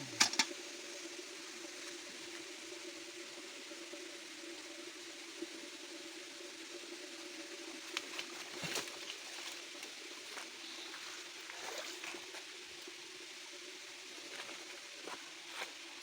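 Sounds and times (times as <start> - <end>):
stream trickling: 0.0 - 16.0.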